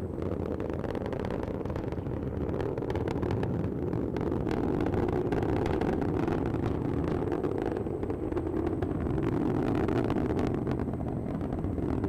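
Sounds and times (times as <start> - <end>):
rocket engines roaring: 0.0 - 12.0.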